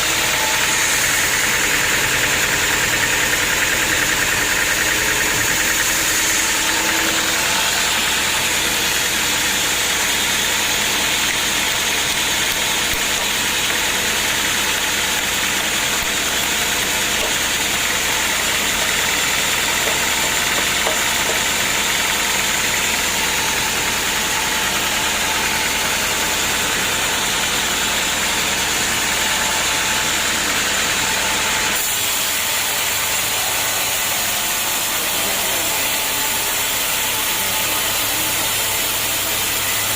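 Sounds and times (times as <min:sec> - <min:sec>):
sawmill motor drone: 0:00.0 - 0:39.9
wide even sawing noise: 0:00.0 - 0:39.9.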